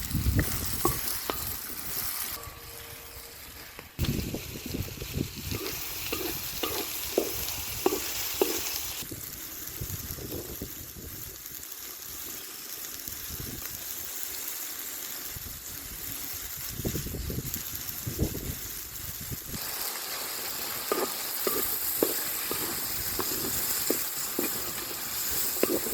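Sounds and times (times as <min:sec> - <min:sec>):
food sizzling in a pot: 0:00.0 - 0:25.9.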